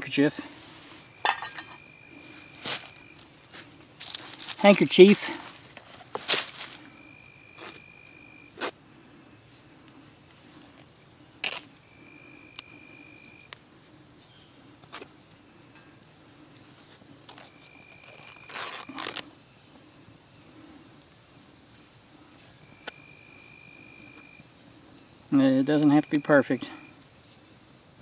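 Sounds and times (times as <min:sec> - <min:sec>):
insect trilling: 0:00.2 - 0:28.0.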